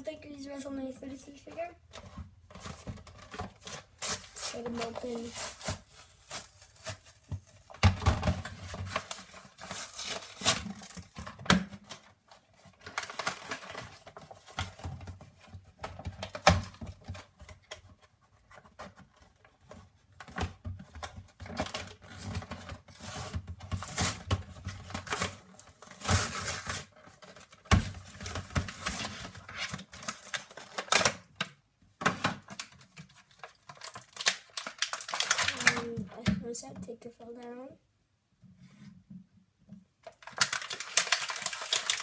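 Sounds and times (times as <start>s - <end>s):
plastic packaging crinkling: 2.0s - 20.3s, 21.0s - 31.4s, 32.4s - 36.0s, 40.0s - 42.0s.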